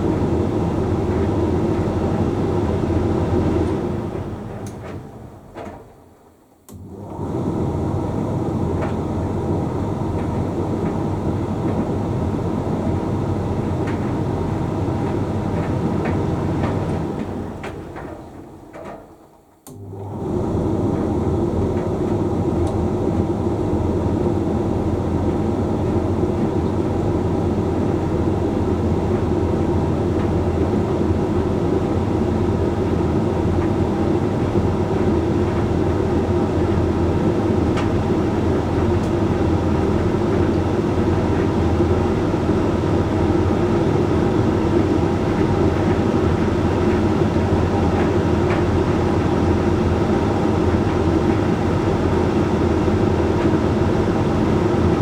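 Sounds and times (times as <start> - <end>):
tumble dryer running: 0.0 - 55.0.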